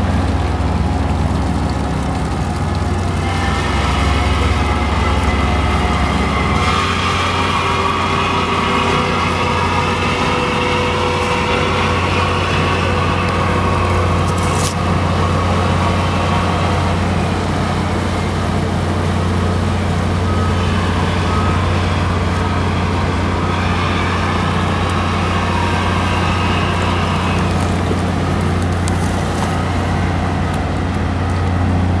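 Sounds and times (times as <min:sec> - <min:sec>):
diesel engines droning: 0:00.0 - 0:32.0.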